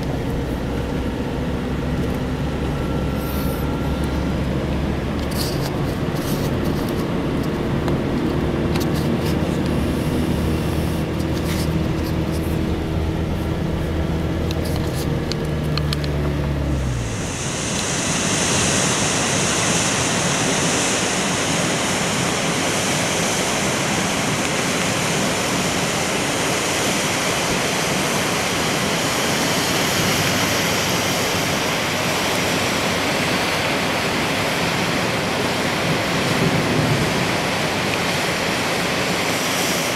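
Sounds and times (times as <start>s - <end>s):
flood water rushing: 0.0s - 39.9s
vehicle engine running: 0.0s - 39.9s.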